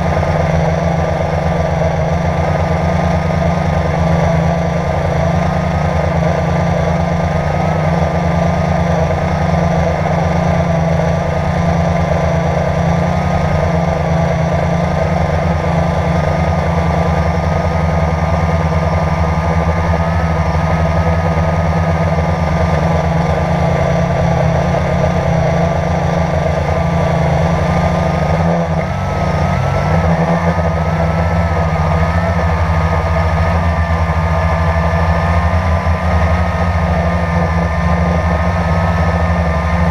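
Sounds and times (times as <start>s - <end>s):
quadcopter drone buzzing: 0.0s - 39.9s.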